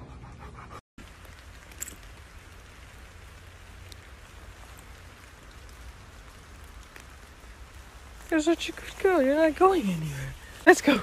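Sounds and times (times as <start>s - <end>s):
outdoor background hiss: 0.3s - 11.0s.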